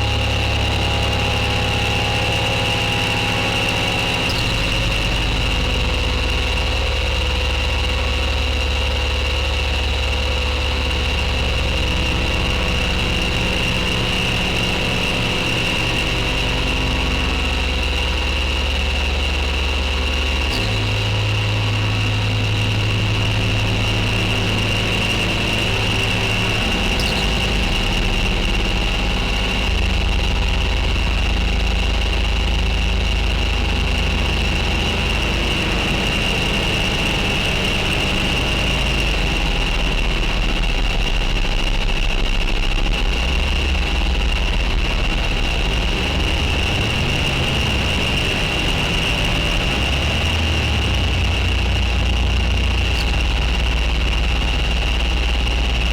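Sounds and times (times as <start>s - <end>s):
deep bass synth notes: 0.0s - 55.9s
synthesizer drone with high whine: 0.0s - 55.9s.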